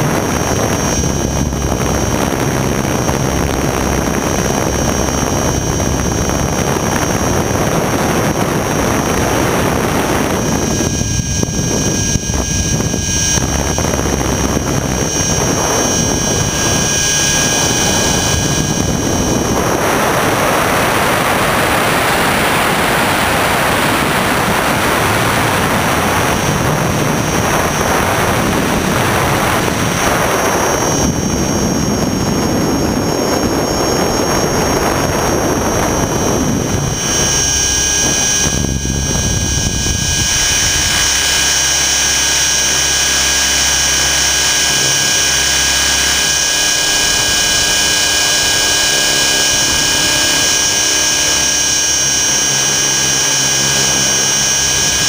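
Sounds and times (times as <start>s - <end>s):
rc helicopter rotor and motor whine: 0.0s - 55.0s
wind rush: 0.0s - 55.0s.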